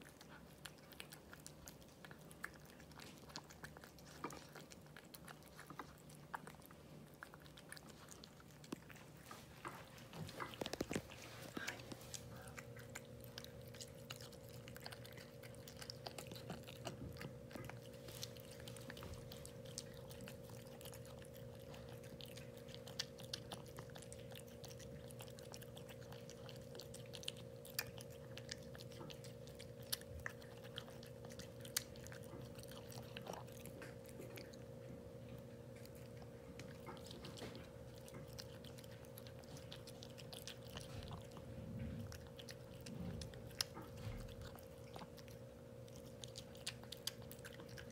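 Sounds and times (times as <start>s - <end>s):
cat chewing food: 0.0s - 47.9s
steady low hum: 0.0s - 47.9s.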